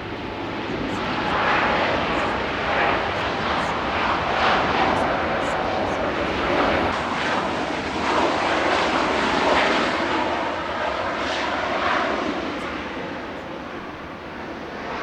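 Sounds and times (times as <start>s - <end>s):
jet engines passing close: 0.0s - 15.0s.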